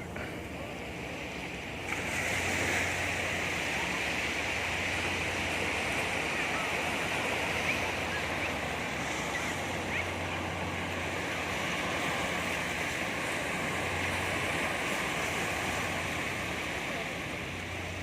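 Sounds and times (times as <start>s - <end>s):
sea waves breaking on beach: 0.0s - 18.0s.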